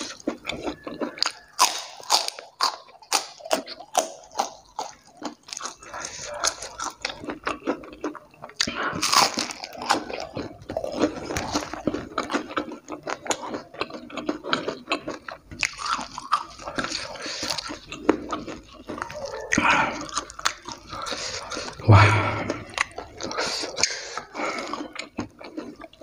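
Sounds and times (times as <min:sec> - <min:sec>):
crunching and wet chewing: 0:00.0 - 0:26.0.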